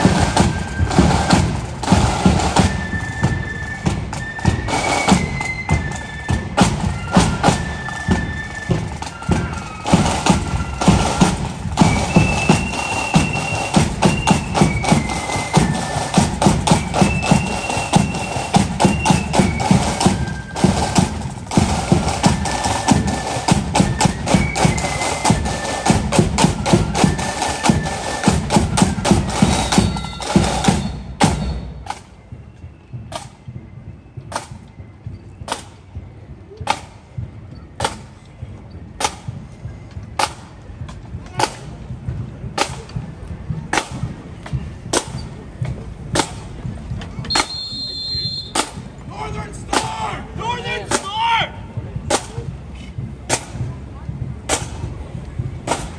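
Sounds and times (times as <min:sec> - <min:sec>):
marching band playing: 0:00.0 - 0:55.9.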